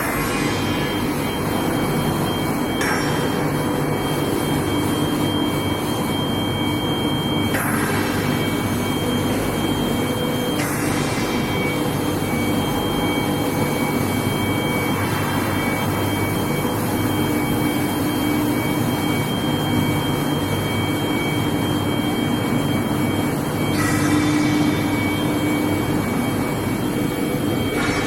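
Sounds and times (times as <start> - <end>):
high-pitched machine whines: 0.0 - 28.0
low machine hum: 0.0 - 28.0.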